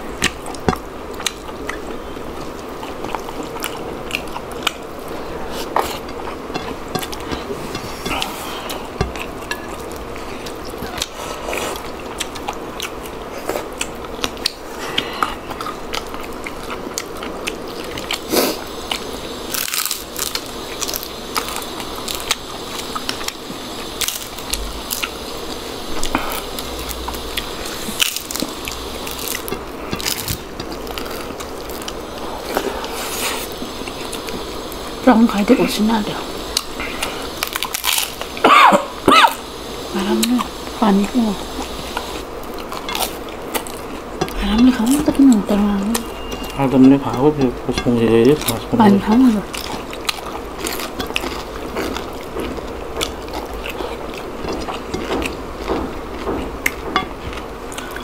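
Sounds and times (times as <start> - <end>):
chewing and crunching crisp food: 0.0 - 39.4, 40.1 - 58.0.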